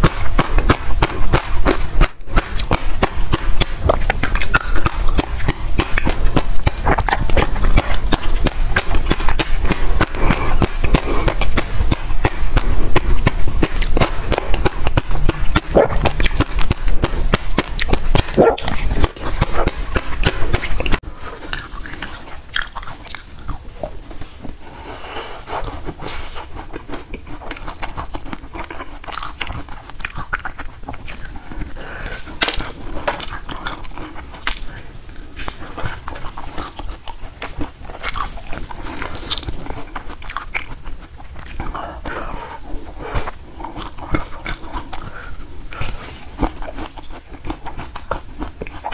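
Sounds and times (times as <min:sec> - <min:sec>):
biting and chewing jelly: 0:00.0 - 0:48.9.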